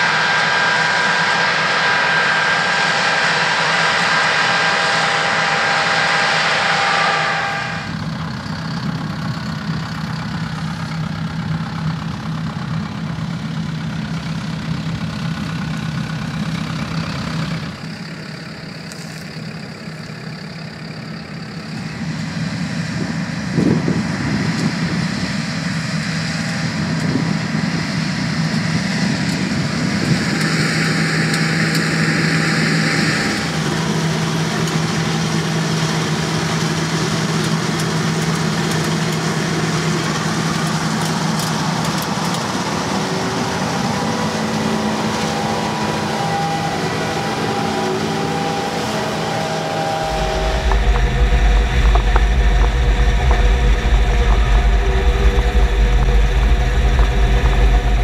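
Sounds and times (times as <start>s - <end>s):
combine harvester engine hum: 0.0s - 58.0s.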